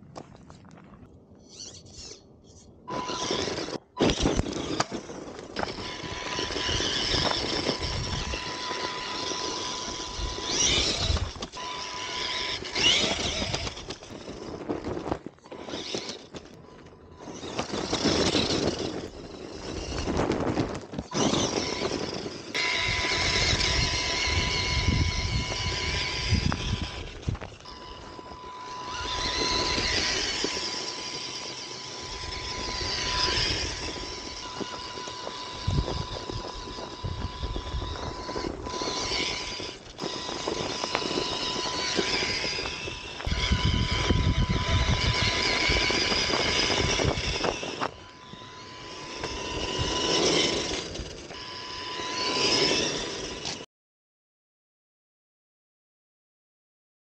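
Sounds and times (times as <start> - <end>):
electric motor and gears whining: 0.2 - 53.7
tyres rumbling over ground: 2.9 - 53.4.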